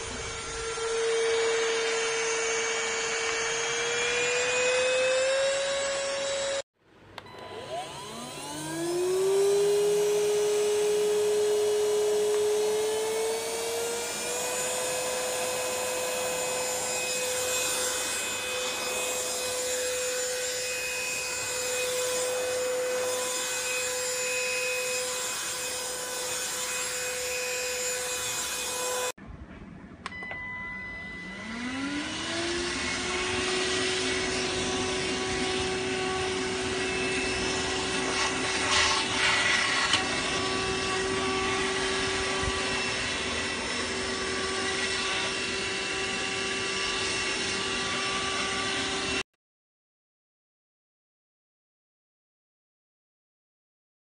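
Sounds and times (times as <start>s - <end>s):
handheld vacuum motor whine: 0.0s - 29.2s, 31.2s - 49.3s.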